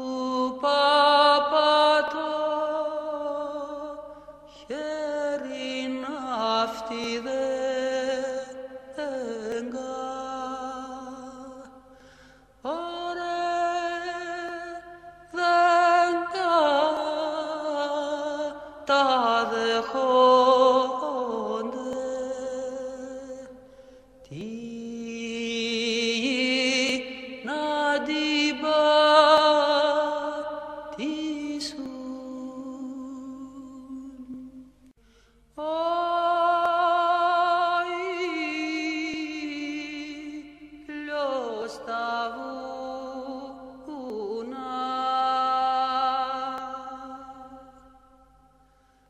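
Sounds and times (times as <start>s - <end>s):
slow chant-like music: 0.0s - 49.0s.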